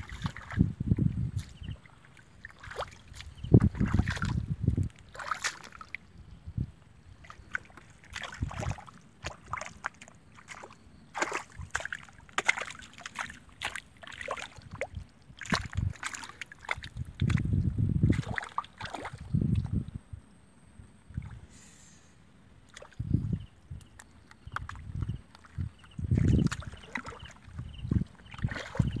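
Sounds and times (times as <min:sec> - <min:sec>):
mud squelching and water sloshing: 0:00.0 - 0:06.3, 0:06.9 - 0:19.9, 0:22.6 - 0:29.0.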